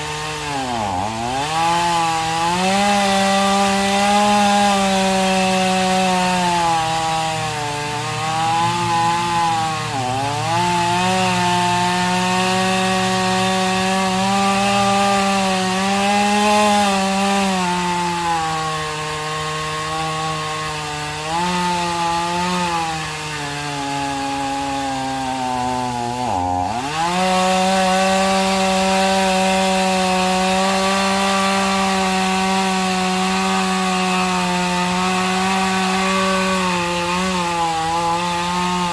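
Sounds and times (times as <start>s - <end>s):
chainsaw cutting roots: 0.0s - 38.9s.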